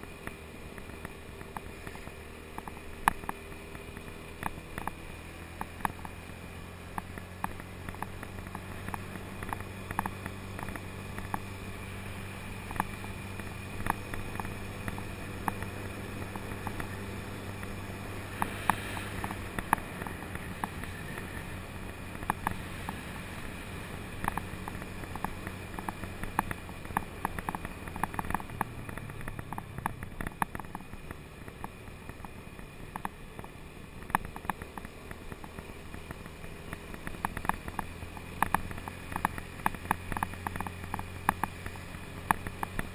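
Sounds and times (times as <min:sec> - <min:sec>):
motor scooter engine running: 0:00.0 - 0:42.9
small clicks and knocks: 0:00.2 - 0:06.3, 0:06.9 - 0:11.5, 0:12.6 - 0:17.0, 0:17.6 - 0:21.4, 0:22.1 - 0:23.1, 0:24.2 - 0:42.9.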